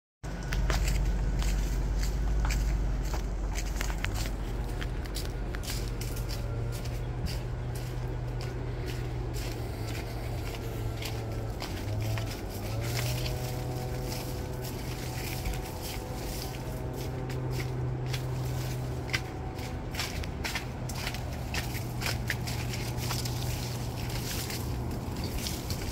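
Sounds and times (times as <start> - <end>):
low rumble: 0.2 - 25.9
footsteps crunching dry leaves: 0.3 - 25.9.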